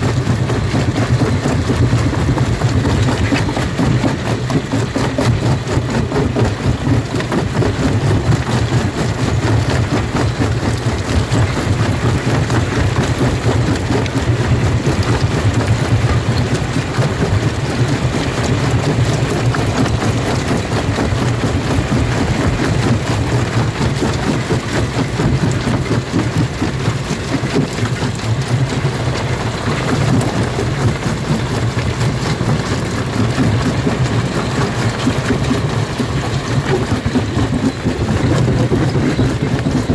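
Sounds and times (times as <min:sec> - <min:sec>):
rock crusher drone: 0:00.0 - 0:39.9.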